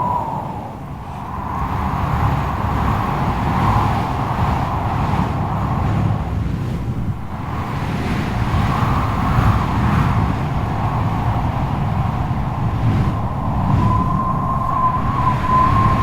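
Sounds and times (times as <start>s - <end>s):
strong wind howling: 0.0s - 16.0s.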